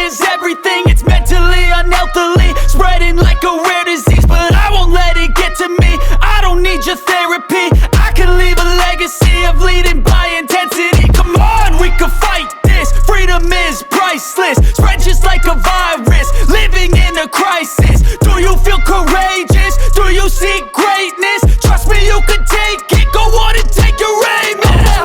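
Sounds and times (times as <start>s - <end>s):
hip hop music with heavy bass beat: 0.0s - 25.0s.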